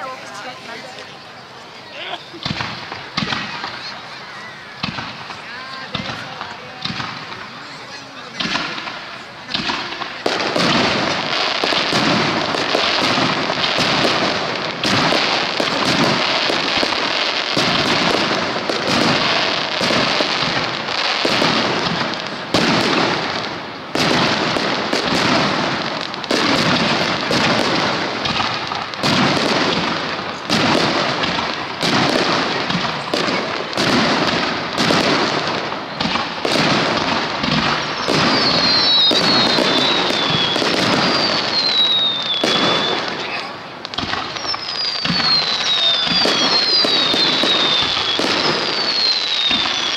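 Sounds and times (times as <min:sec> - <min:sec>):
fireworks launching and bursting: 0:00.0 - 0:49.9.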